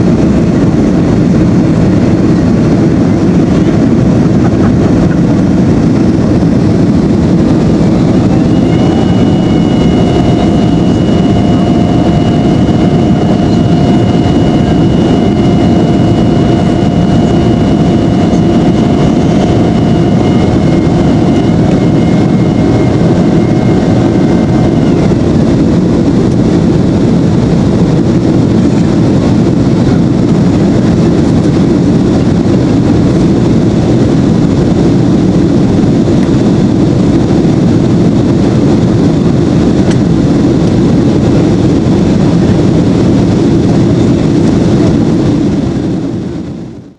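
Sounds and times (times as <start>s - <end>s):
jet engines and airflow rush: 0.0s - 46.9s
steady high whine: 0.0s - 46.9s.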